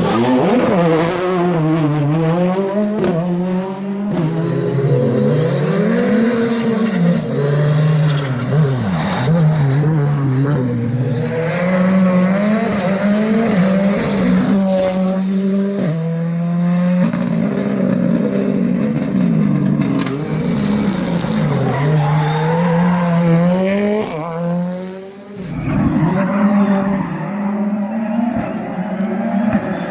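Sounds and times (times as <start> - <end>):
rally car engine revving: 0.0 - 29.9.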